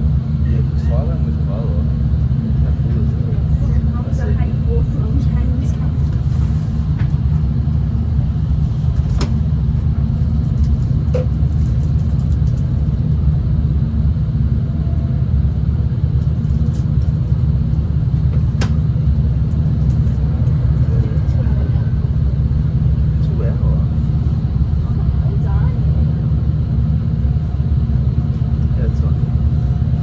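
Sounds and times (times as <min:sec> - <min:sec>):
train rumbling from inside carriage: 0:00.0 - 0:30.0.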